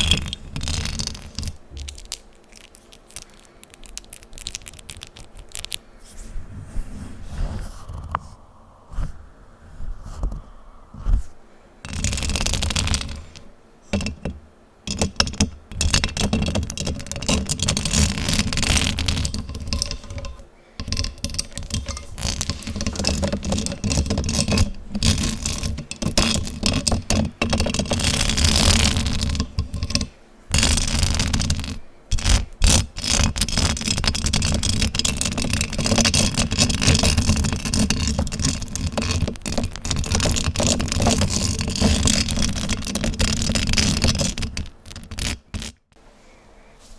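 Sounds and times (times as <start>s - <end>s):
scratching on a microphone: 0.0s - 46.0s.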